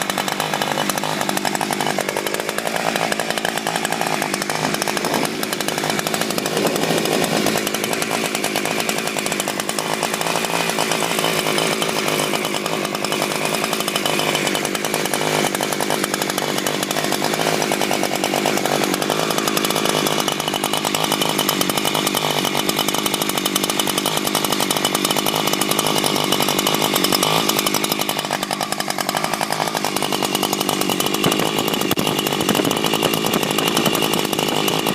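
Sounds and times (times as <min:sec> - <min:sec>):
chainsaw engine running: 0:00.0 - 0:34.9.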